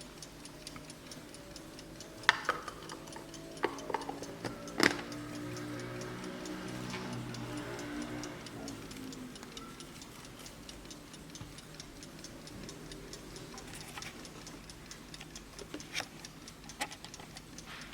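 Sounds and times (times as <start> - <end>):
alarm clock ticking: 0.0 - 17.9.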